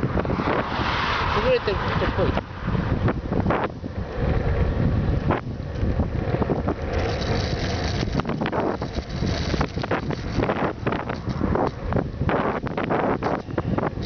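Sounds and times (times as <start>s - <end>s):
road and engine noise: 0.0s - 14.0s
wind buffeting microphone: 0.0s - 14.0s.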